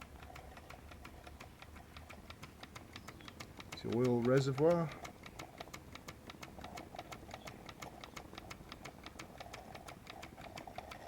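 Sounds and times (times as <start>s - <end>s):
small steam engine ticking: 0.0s - 11.0s.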